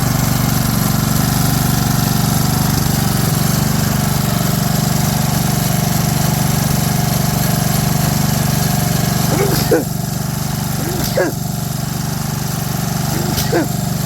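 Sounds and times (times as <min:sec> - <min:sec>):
small gasoline engine running: 0:00.0 - 0:14.0.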